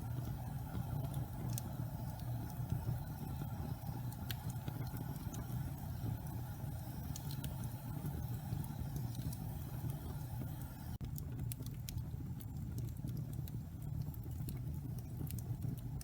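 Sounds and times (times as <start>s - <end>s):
burning logs crackling and popping: 0.0s - 16.0s
fire rumbling: 0.0s - 16.0s.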